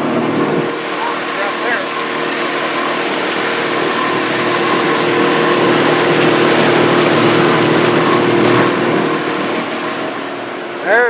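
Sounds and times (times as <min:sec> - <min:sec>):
boat motor running: 0:00.0 - 0:11.0
water noise: 0:00.0 - 0:11.0.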